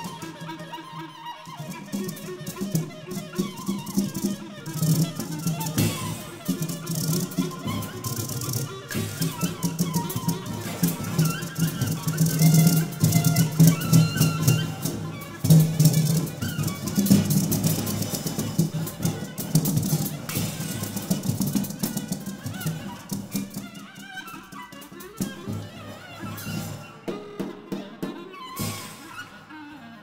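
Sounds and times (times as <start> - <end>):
rattle-like percussion: 0.0 - 29.6
drums: 1.5 - 29.5.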